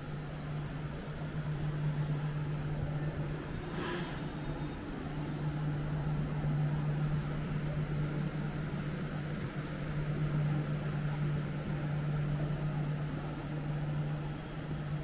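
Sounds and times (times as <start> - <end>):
ventilation hum: 0.0 - 15.0.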